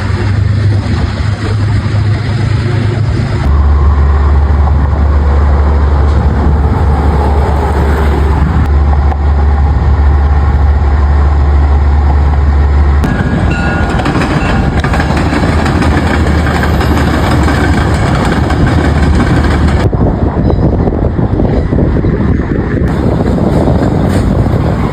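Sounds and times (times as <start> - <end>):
low hum in rail yard: 0.0 - 24.9
train rumbling: 0.0 - 24.9.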